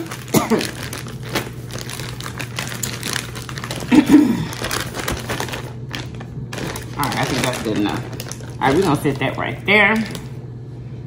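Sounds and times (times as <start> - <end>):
rustling and crinkling handling: 0.0 - 10.3
steady low hum: 0.0 - 11.0.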